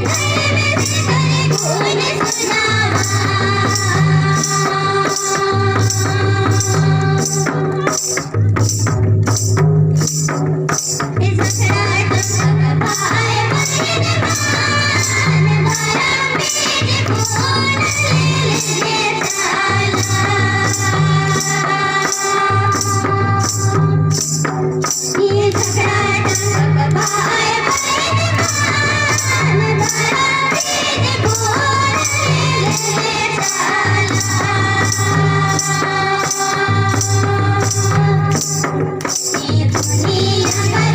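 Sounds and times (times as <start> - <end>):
tambourine-like percussion: 0.0 - 40.9.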